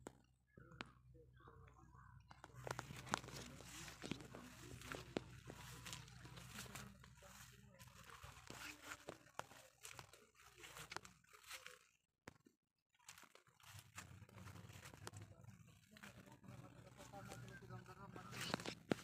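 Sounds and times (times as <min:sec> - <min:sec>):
faint rustling and crackling: 0:02.3 - 0:12.0, 0:13.0 - 0:19.0.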